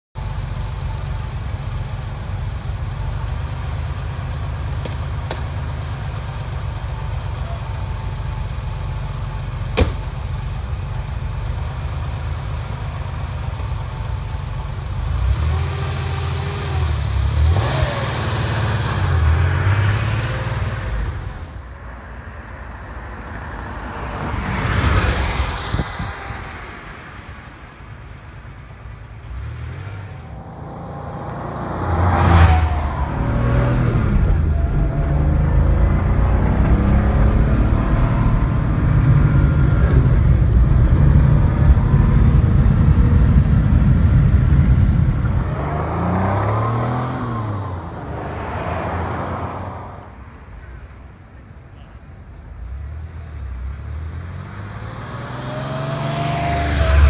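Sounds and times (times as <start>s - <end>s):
car engine idling and revving: 0.1s - 57.0s.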